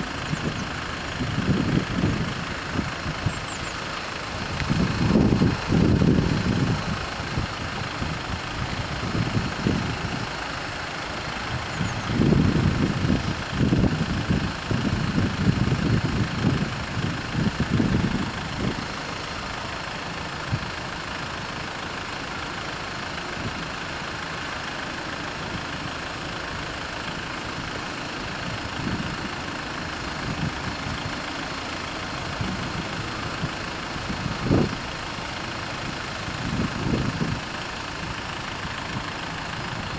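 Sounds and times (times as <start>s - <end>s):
vehicles idling and passing: 0.0s - 39.9s.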